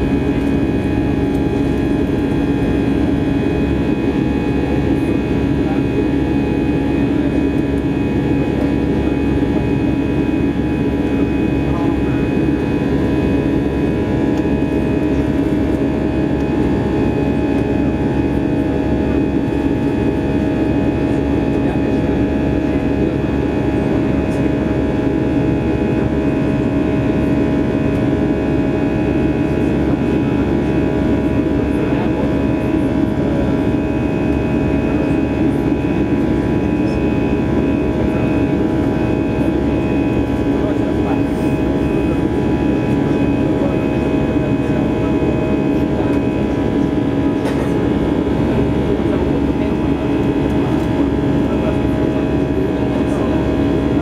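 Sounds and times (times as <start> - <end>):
jet engine drone: 0.0 - 54.0
steady humming tones: 0.0 - 54.0.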